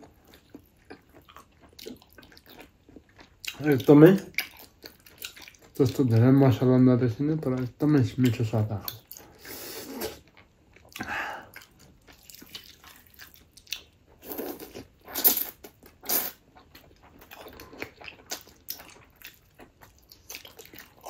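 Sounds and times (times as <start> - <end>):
person chewing and biting food: 0.0 - 5.8, 8.9 - 21.0.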